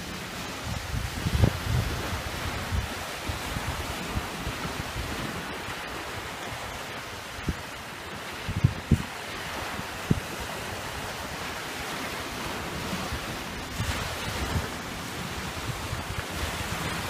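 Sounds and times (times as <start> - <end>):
small waves washing onto shore: 0.0 - 17.0
wind buffeting microphone: 0.0 - 17.0.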